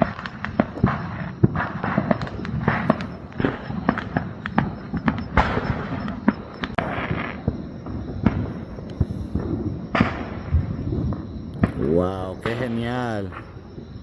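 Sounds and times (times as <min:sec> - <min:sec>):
firework bangs and pops: 0:00.0 - 0:13.6
rumbling crackle: 0:00.0 - 0:14.0.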